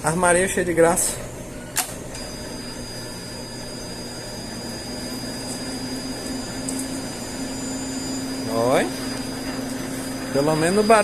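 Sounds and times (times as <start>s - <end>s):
oven fan humming: 0.0s - 11.0s
thin high whine: 0.9s - 11.0s.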